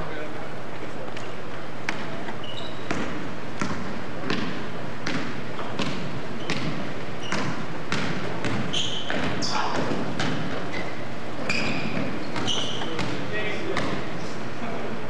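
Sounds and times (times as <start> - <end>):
basketball bouncing on wood floor: 1.9 - 14.1.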